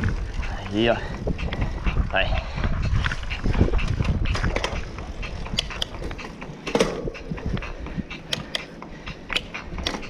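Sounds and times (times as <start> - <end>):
bicycle drivetrain creaking: 0.0 - 10.0.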